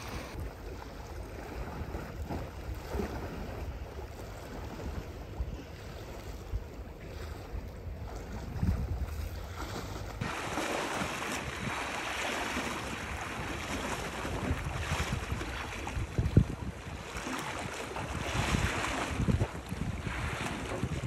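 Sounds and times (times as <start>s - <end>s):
sea waves washing in: 0.0s - 21.0s
wind buffeting microphone: 0.0s - 21.0s.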